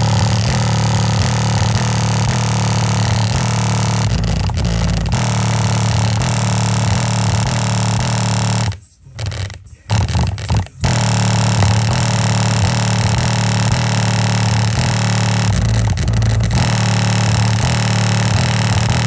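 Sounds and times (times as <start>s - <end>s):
distorted bass-heavy rap music: 0.0s - 19.0s.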